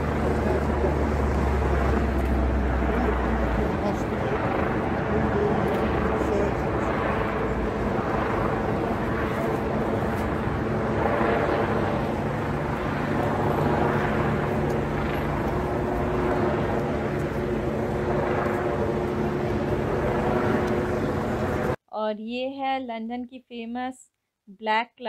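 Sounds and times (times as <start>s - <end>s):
low engine hum: 0.0s - 21.8s
road traffic: 0.0s - 21.8s.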